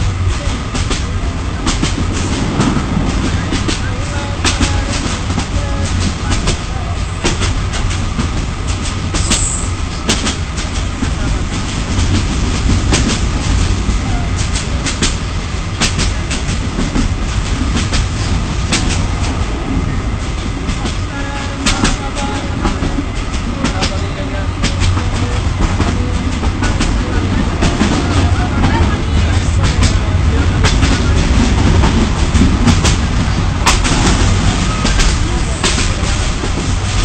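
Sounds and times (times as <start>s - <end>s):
train low rumble: 0.0s - 37.0s
wheels clicking on rails: 0.0s - 37.0s.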